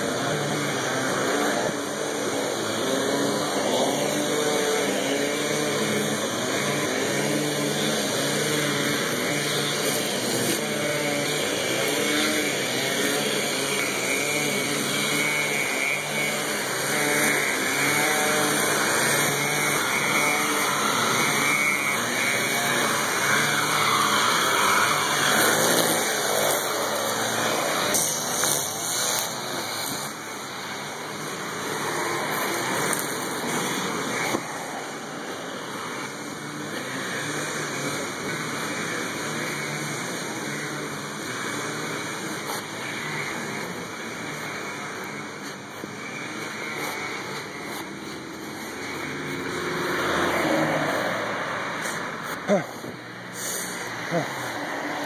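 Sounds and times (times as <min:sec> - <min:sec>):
traffic noise: 0:00.0 - 0:55.0
vehicle engine humming: 0:00.0 - 0:55.0.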